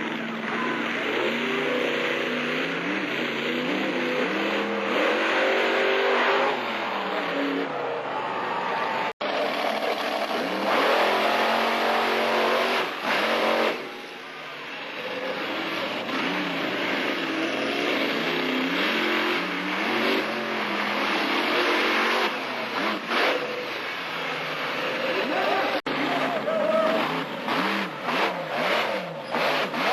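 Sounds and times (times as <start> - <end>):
monster truck engine revving: 0.0 - 29.9.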